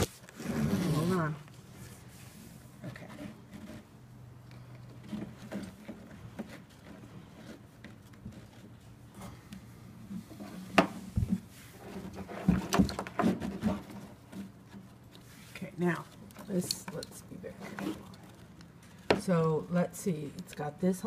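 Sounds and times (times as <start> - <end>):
strap rustling and scraping: 0.0 - 19.5.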